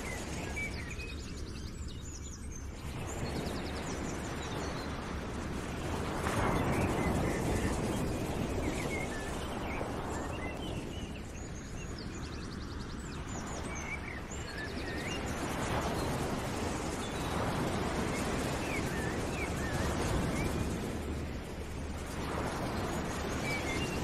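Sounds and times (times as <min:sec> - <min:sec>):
steady rushing noise: 0:03.0 - 0:24.0.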